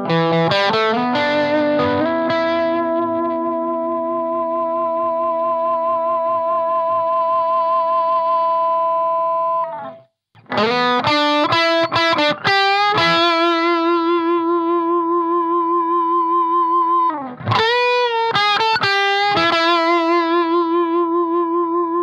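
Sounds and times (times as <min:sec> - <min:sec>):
overdriven electric guitar: 0:00.0 - 0:22.0.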